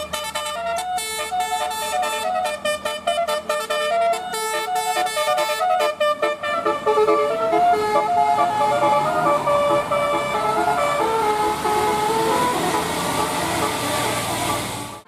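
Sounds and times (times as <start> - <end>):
multi-tone air horn melody: 0.0 - 15.0.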